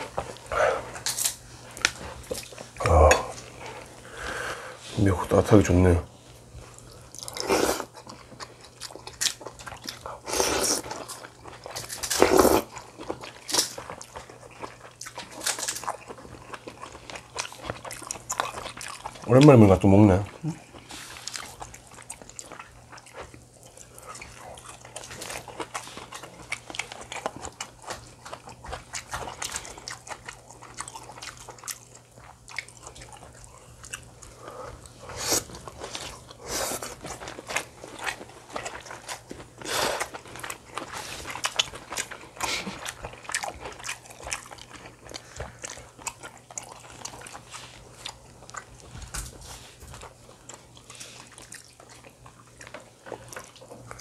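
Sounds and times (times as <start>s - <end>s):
person chewing and crunching: 0.0s - 4.3s, 6.4s - 54.0s
low steady hum: 0.0s - 54.0s.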